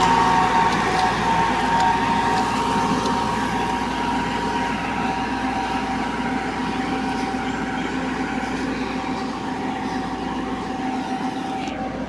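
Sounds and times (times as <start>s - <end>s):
combine harvester running: 0.0s - 12.0s
high machinery whine: 0.0s - 12.0s.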